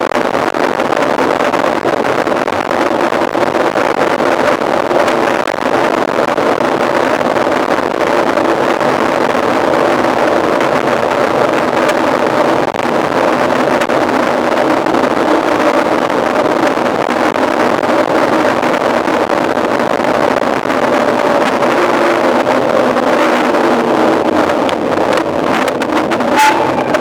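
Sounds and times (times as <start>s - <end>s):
bike tyre rolling noise: 0.0s - 27.0s
wind on microphone: 0.0s - 27.0s.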